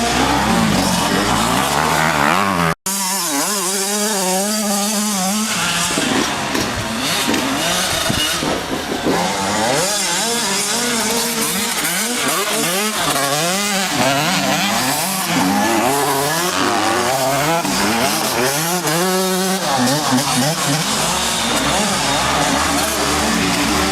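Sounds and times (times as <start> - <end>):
two-stroke motocross bike revving: 0.0 - 23.9.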